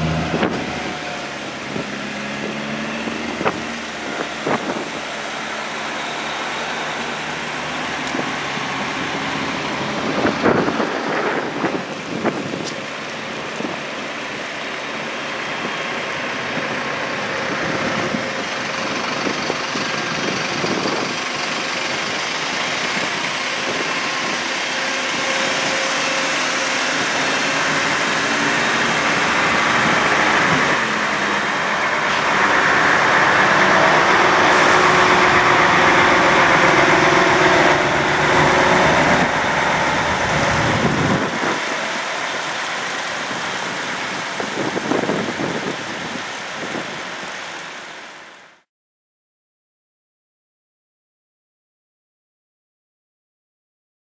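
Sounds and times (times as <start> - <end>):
heavy vehicles driving past: 0.0 - 48.4
crane truck passing: 0.0 - 48.5.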